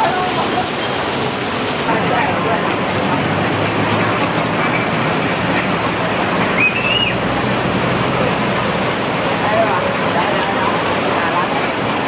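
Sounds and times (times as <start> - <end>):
heavy rain: 0.0 - 12.0
rushing water: 0.0 - 12.0.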